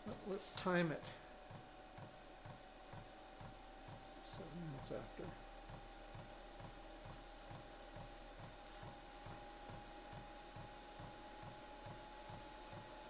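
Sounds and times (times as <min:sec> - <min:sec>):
fan whining steadily: 0:00.0 - 0:13.0.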